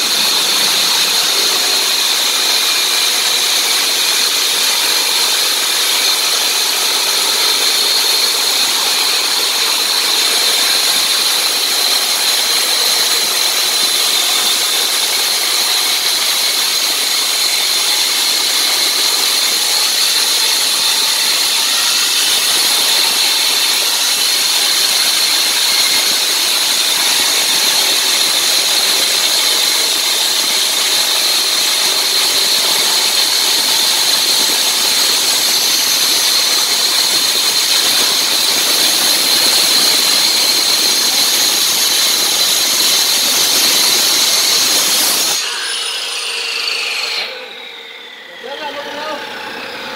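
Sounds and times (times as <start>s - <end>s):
diamond cutter sawing concrete: 0.0s - 49.9s.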